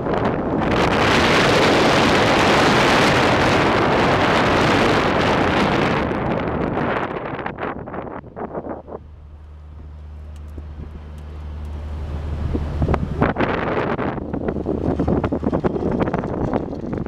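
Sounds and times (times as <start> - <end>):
road noise: 0.0 - 17.0
wind rushing over microphone: 0.0 - 17.0.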